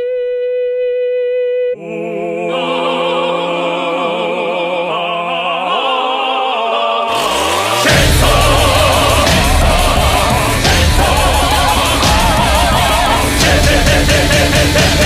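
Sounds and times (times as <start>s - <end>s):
operatic singing with music: 1.8s - 15.0s.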